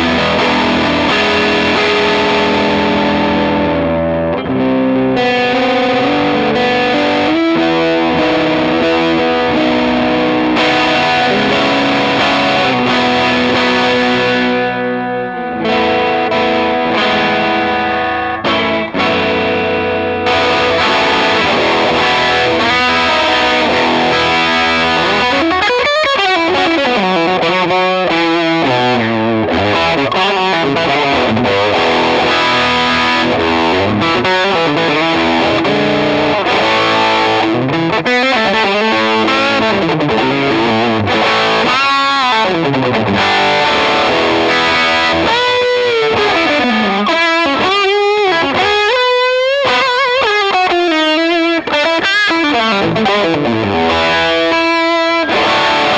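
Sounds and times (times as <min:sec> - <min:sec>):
distorted electric guitar: 0:00.0 - 0:55.9.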